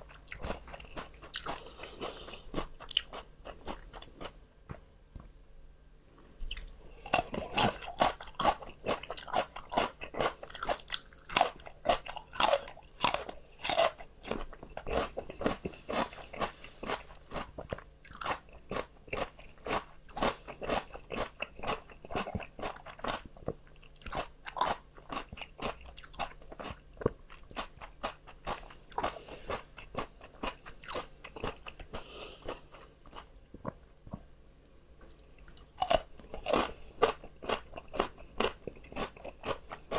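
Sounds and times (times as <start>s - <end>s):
chewing crisp raw vegetables: 0.0s - 4.4s, 6.4s - 39.9s.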